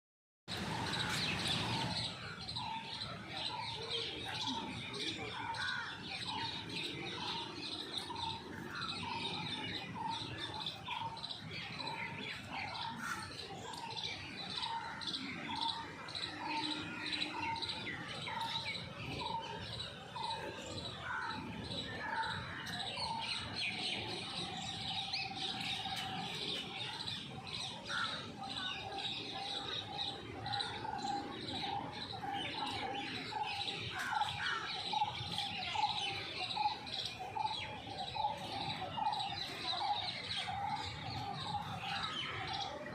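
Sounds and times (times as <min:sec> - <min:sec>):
birds chirping: 0:00.5 - 0:42.9.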